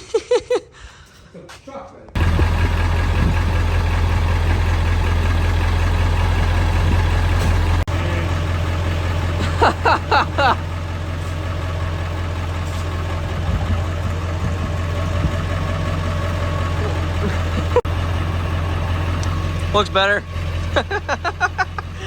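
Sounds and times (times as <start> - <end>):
diesel engine idling: 2.2 - 22.0.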